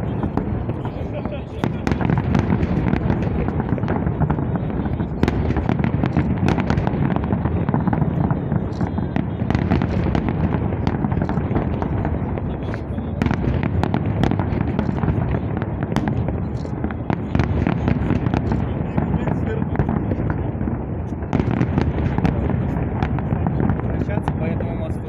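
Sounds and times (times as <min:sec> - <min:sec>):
fireworks cracks and bangs: 0:00.0 - 0:25.0.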